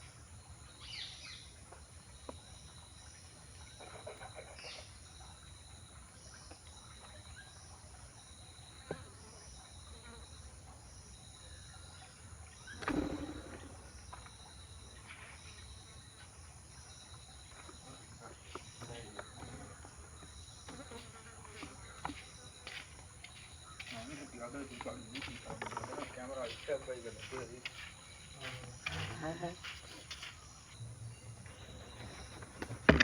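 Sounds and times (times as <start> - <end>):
bird calls: 0.0 - 33.0
insects trilling: 0.0 - 33.0.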